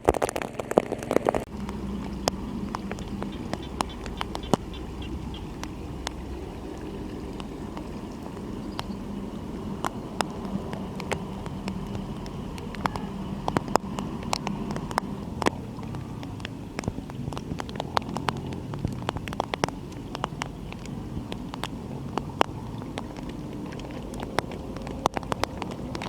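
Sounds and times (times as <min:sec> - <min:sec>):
raindrops ticking close by: 0:00.0 - 0:26.0
rain hiss: 0:00.3 - 0:26.0.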